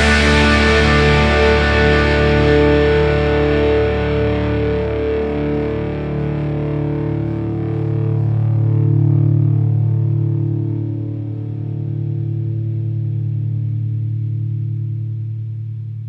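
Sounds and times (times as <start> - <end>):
punk rock guitar and bass chords: 0.0 - 16.0.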